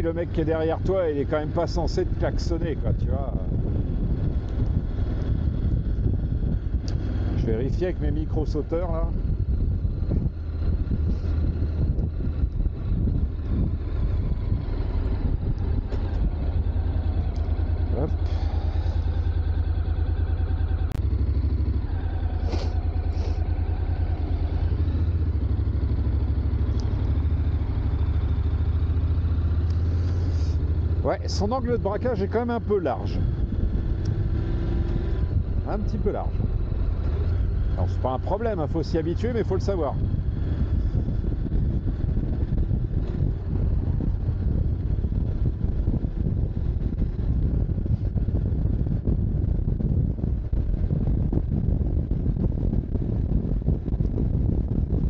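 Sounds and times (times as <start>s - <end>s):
motorcycle engine idling low: 0.0s - 55.0s
wind rushing over microphone: 0.0s - 55.0s.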